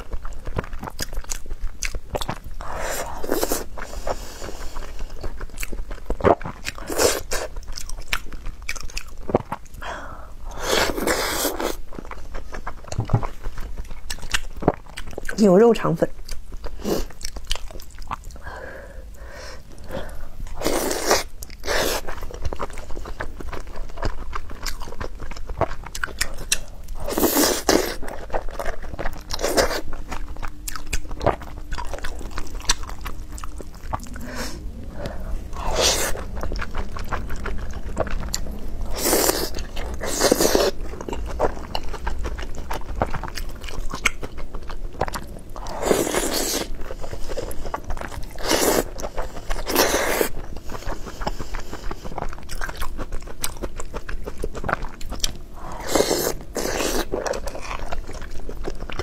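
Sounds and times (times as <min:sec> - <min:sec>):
chewing and wet mouth sounds: 0:00.0 - 0:59.0.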